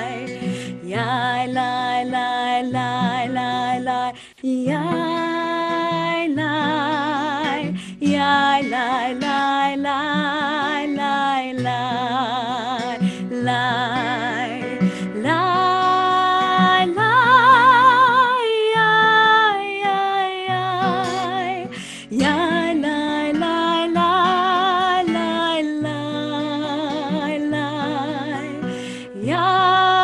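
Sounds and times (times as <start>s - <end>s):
woman singing with vibrato: 0.0s - 30.0s.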